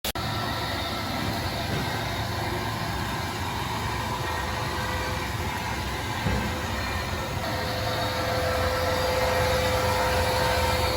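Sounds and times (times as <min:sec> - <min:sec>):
milling machine running: 0:00.1 - 0:10.9.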